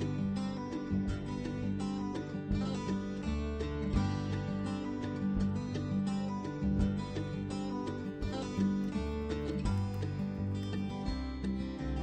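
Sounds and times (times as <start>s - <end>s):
strummed guitar music: 0.0s - 12.0s.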